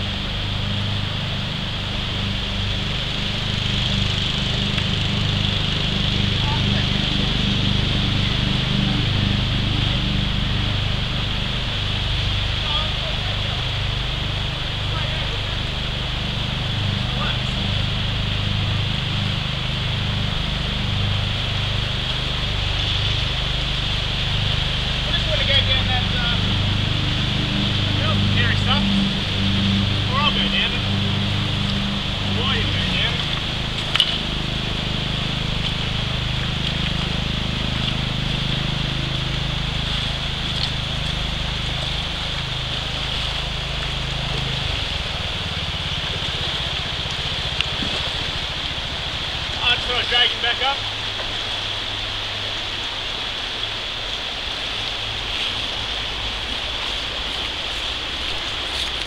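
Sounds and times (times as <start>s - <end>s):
low rumble: 0.0s - 53.8s
river rapids rushing: 0.0s - 59.0s
steady low hum: 0.0s - 59.0s.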